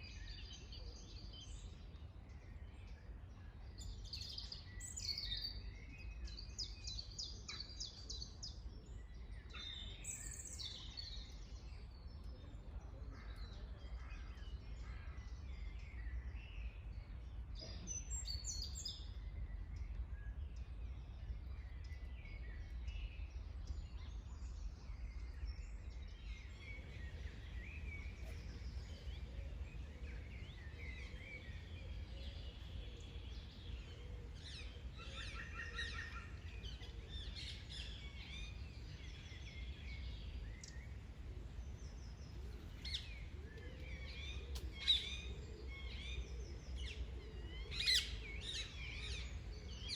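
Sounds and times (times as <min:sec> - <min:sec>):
songbirds singing and chirping: 0:00.0 - 0:49.9.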